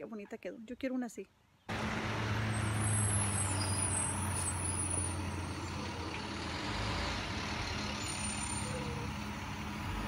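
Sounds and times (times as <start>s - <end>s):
bus engine humming: 1.7s - 10.0s
road noise: 1.7s - 10.0s.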